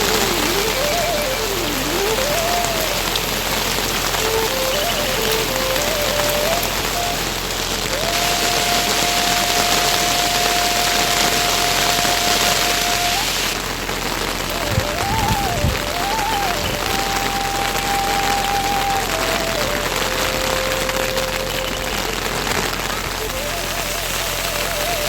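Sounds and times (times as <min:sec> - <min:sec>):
thin wavering melody: 0:00.0 - 0:13.6, 0:14.5 - 0:25.0
steady rain falling: 0:00.0 - 0:25.0.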